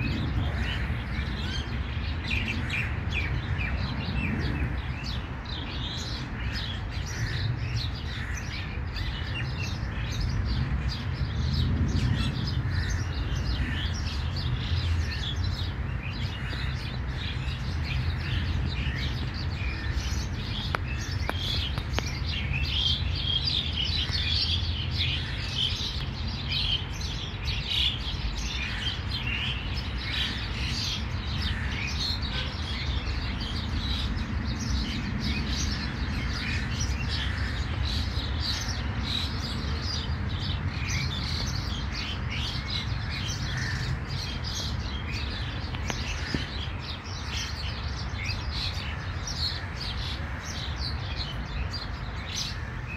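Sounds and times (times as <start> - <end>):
small birds chirping and twittering: 0.0 - 52.9.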